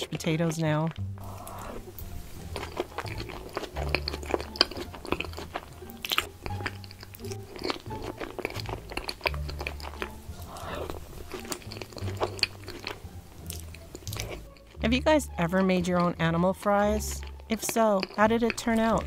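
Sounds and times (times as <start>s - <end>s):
woman chewing wetly: 0.0s - 14.8s, 15.4s - 19.0s.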